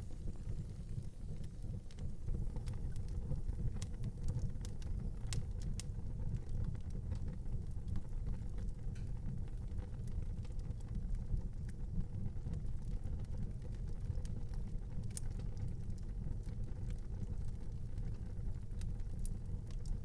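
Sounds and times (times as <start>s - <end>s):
fire crackling and popping: 0.0s - 20.0s
low fire rumble: 0.0s - 20.0s.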